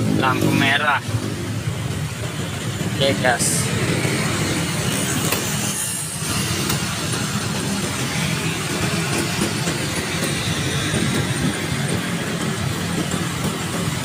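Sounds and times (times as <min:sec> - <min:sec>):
scooter riding noise: 0:00.0 - 0:14.0.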